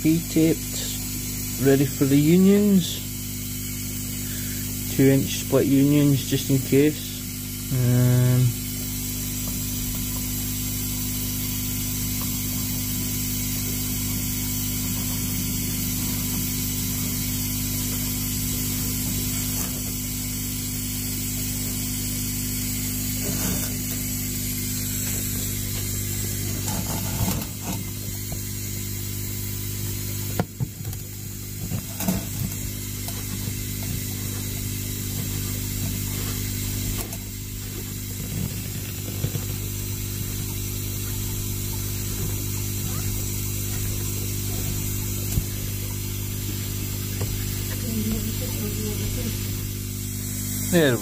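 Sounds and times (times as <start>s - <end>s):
steady electrical hum: 0.0s - 51.0s.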